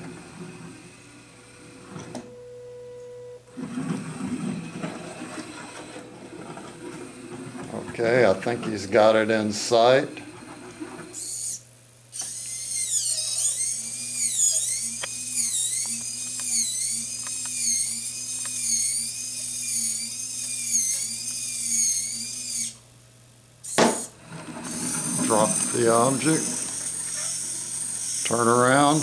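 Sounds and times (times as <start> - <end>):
electric gear motors whining: 0.0 - 2.4, 3.5 - 22.9, 23.6 - 29.0.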